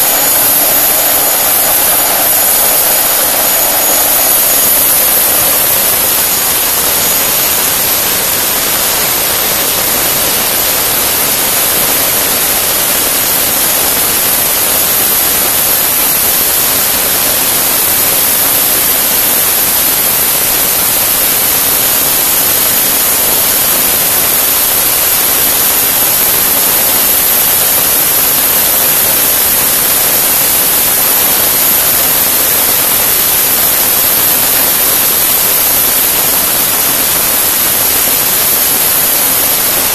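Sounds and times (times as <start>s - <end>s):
gas turbine running: 0.0s - 39.9s.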